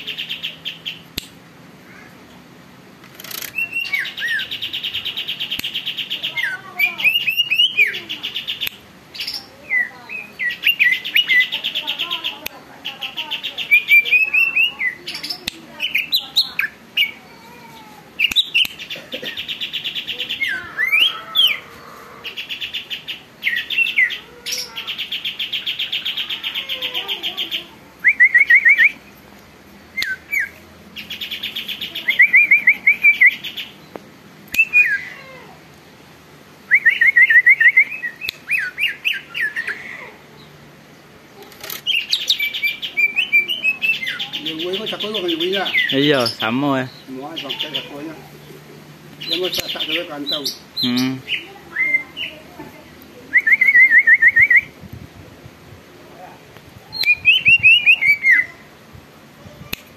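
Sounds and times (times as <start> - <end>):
caged bird singing varied song: 0.0 - 1.4, 3.0 - 29.2, 29.9 - 35.4, 36.6 - 54.9, 56.8 - 58.8.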